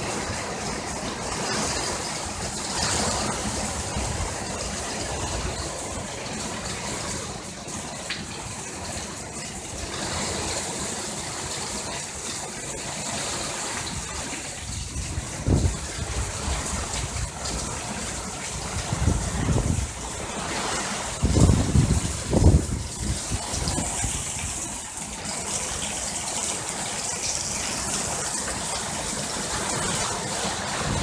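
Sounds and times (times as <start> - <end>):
gusty wind in trees: 0.0 - 31.0
heavy rain pouring: 0.0 - 31.0
low rumble of wind: 0.0 - 31.0.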